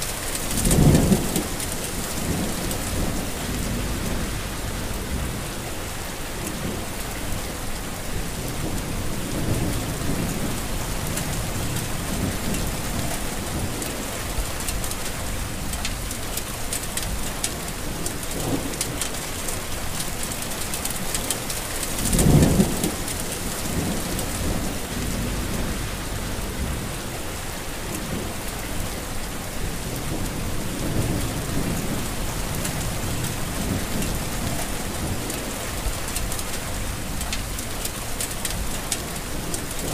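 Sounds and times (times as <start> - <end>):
thunder rumbling: 0.0 - 16.3, 21.0 - 39.9
heavy rain: 0.0 - 39.9.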